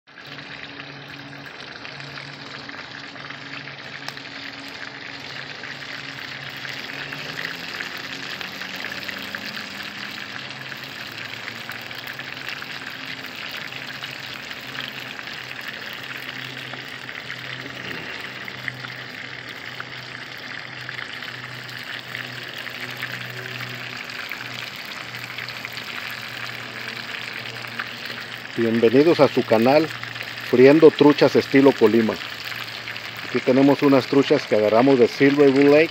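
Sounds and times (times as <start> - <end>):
fish sizzling in oil: 0.1 - 35.9.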